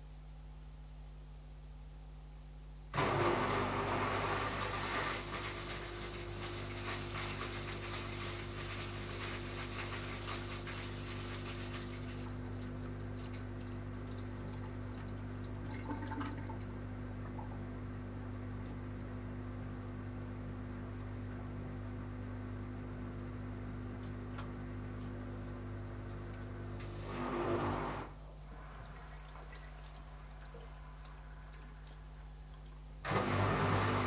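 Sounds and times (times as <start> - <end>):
drain pump humming: 2.9 - 34.0.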